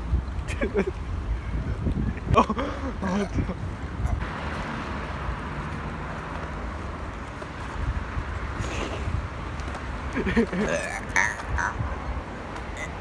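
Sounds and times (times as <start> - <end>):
steady rumbling noise: 0.0 - 13.0.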